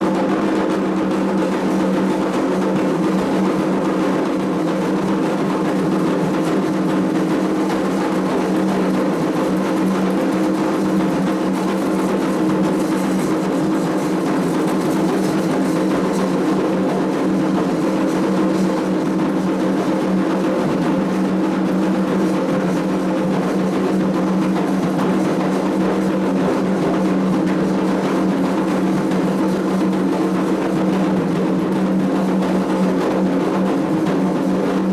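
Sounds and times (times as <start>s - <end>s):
hand drums playing dense rhythm: 0.0s - 34.9s.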